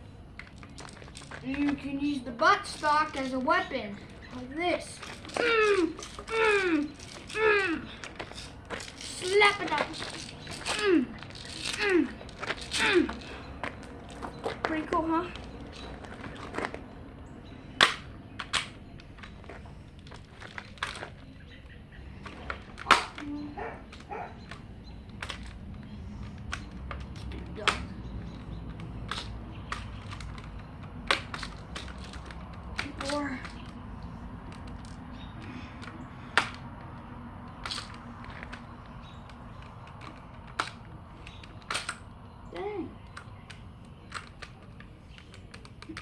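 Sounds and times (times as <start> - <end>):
bb gun handling clicks and knocks: 0.3 - 21.4, 22.1 - 46.0.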